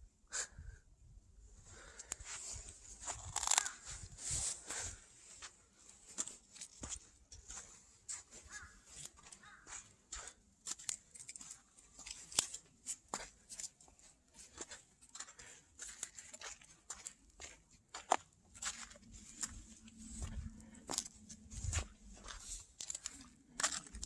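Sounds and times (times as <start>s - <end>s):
footsteps crunching on frozen ground: 2.2s - 24.0s.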